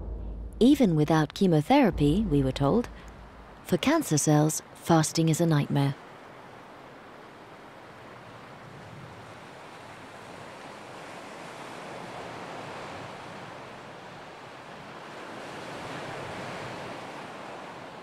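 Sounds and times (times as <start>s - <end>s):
ocean waves washing on shore: 0.0s - 18.0s.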